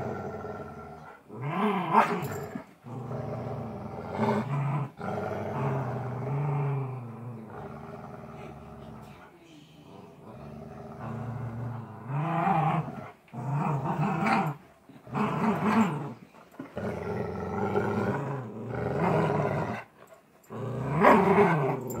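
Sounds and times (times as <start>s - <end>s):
dogs growling in play: 0.0s - 22.0s.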